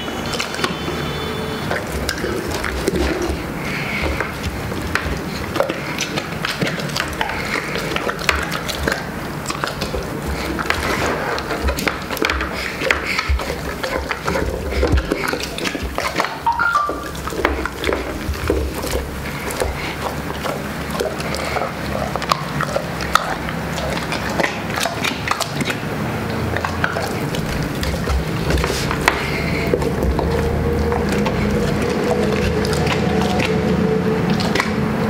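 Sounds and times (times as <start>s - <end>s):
dog crunching bones: 0.0s - 35.0s
wet chewing and lip-smacking: 0.0s - 35.0s.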